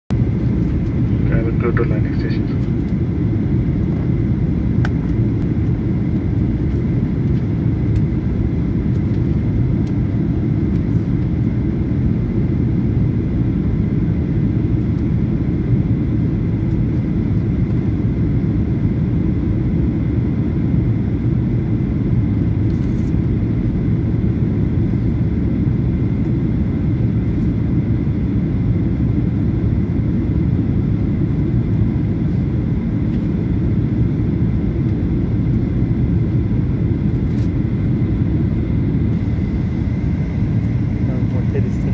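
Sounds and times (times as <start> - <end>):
airflow over fuselage: 0.1 - 41.9
jet engine drone: 0.1 - 41.9.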